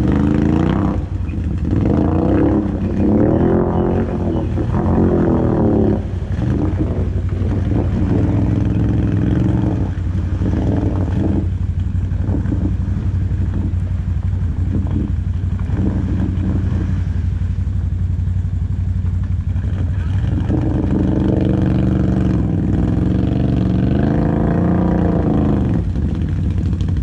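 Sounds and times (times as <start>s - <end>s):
atv engines revving: 0.0s - 27.0s.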